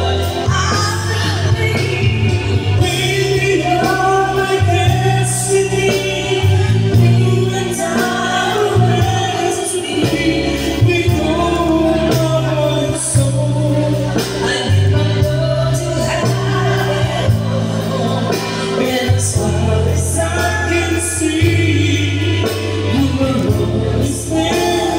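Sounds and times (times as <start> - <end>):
man singing into microphone: 0.0 - 24.9
music with heavy bass line: 0.0 - 24.9
woman singing into microphone: 0.0 - 24.9.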